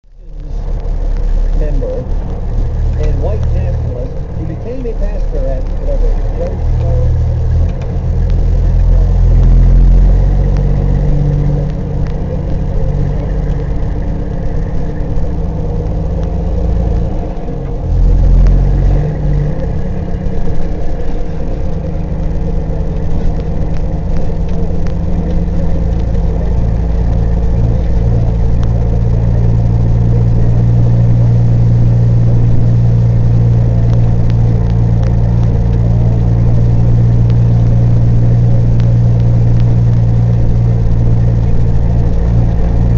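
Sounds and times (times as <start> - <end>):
truck diesel engine drone: 0.0 - 42.9.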